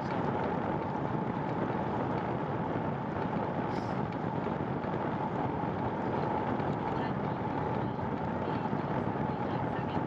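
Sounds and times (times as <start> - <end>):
rushing wind and road noise: 0.0 - 10.0.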